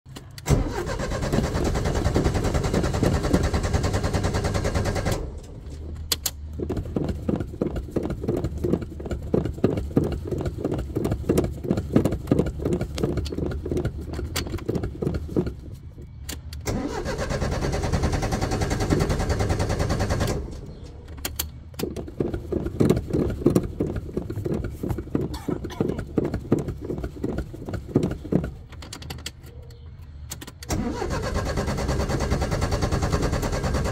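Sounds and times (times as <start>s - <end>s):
car engine cranking on starter: 0.2s - 15.7s, 16.6s - 28.8s, 30.5s - 33.9s
car engine running: 0.7s - 28.8s.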